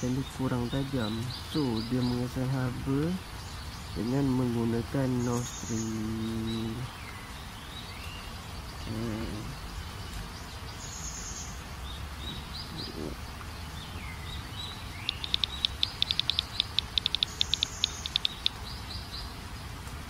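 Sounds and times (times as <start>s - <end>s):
birds chirping: 0.0s - 19.8s
low background hiss: 0.0s - 20.0s.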